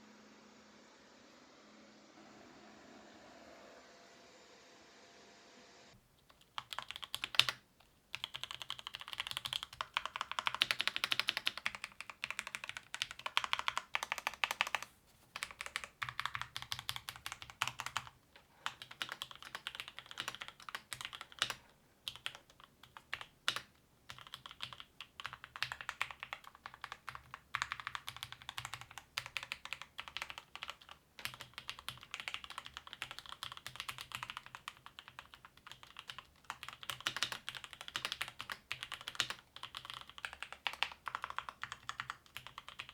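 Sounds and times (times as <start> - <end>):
mechanical keyboard typing: 6.3 - 42.9.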